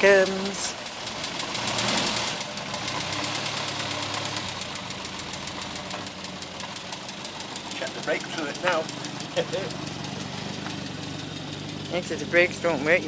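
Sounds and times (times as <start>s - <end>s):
car engine running with ticking: 0.0s - 13.0s.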